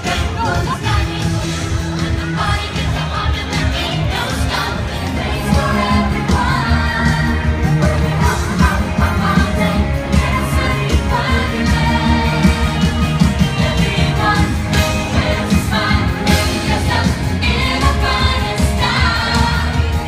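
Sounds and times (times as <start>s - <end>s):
pop song with singing and bass: 0.0s - 20.0s.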